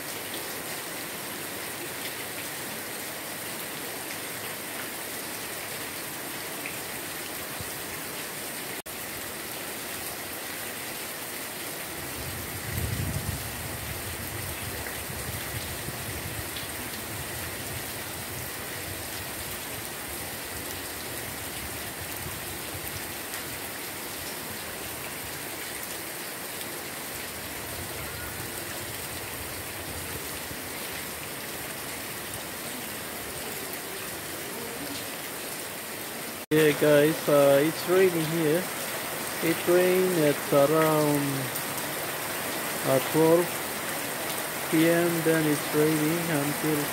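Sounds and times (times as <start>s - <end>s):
heavy rain on ground and plants: 0.0s - 46.9s.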